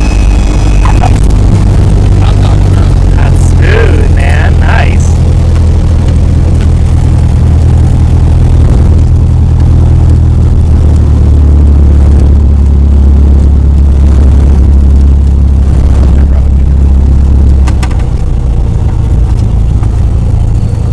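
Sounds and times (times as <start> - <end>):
small plane engine and propeller: 0.0 - 20.9.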